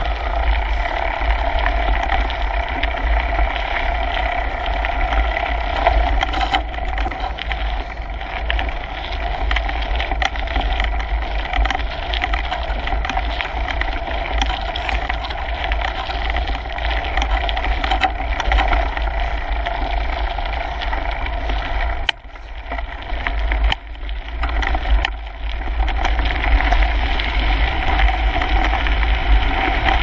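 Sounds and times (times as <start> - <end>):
bike frame rattling: 0.0 - 30.0
bike tyres crunching on gravel: 0.0 - 30.0
wind rumble on microphone: 0.0 - 30.0.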